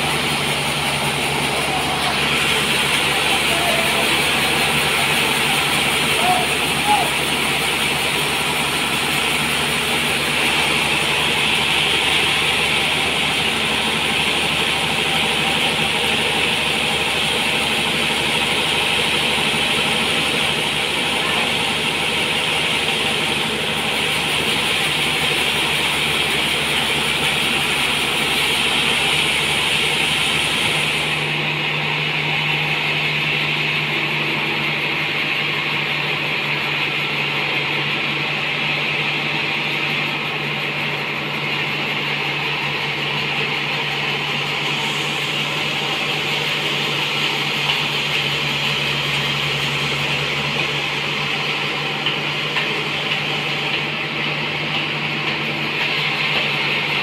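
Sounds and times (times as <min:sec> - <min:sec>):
band sawmill sawing log: 0:00.0 - 0:57.0.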